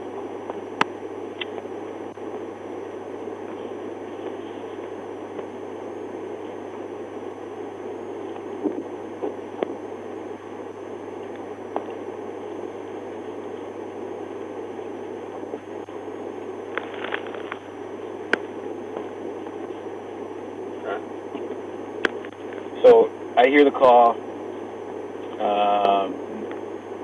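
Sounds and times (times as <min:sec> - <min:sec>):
fan hum: 0:00.0 - 0:27.0
recording hiss: 0:00.0 - 0:27.0.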